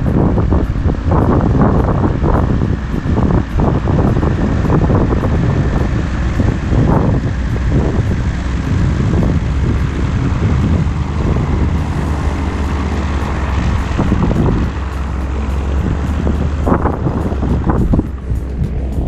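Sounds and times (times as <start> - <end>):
engine running with low rumble: 0.0 - 19.0
wind noise on microphone: 0.0 - 19.0.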